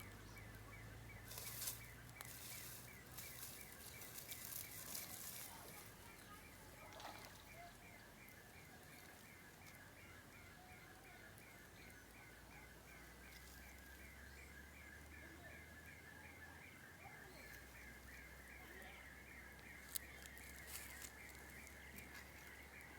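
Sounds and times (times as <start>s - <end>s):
natural ambience: 0.0s - 22.9s.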